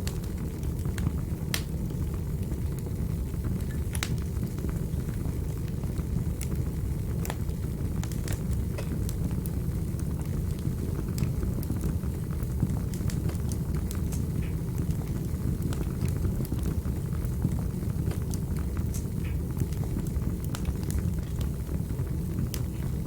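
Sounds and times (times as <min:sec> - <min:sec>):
fire crackles and pops: 0:00.0 - 0:23.0
fire rumbling: 0:00.0 - 0:23.0.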